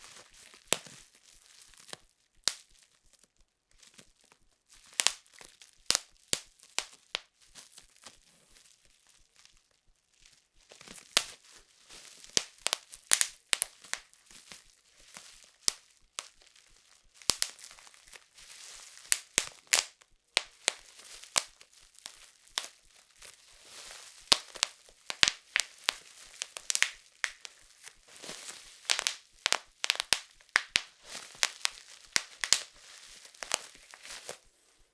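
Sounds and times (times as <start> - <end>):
plastic sheet crinkling: 0.0 - 3.2, 3.9 - 34.8
bubble wrap popping: 0.0 - 34.9.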